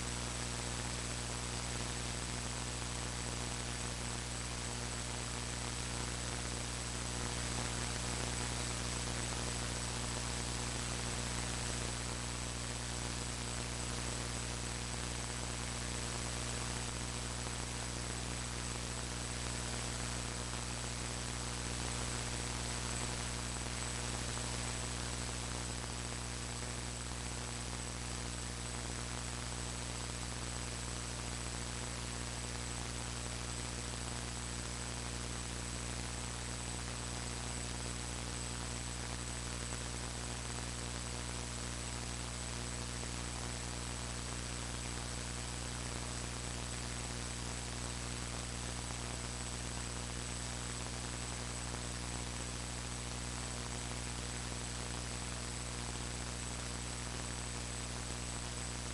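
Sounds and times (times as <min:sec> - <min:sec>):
electrical hum and hiss: 0:00.0 - 0:58.9.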